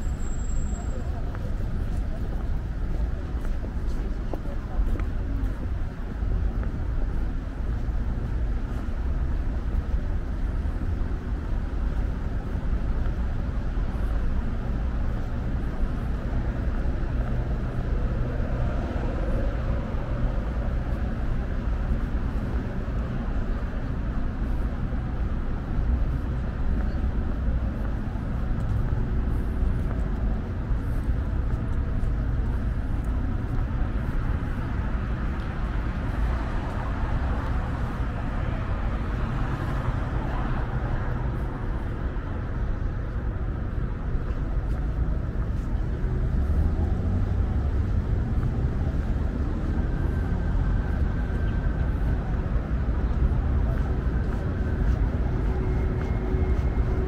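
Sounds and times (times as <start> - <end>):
rumble of passing cars: 0.0 - 57.0.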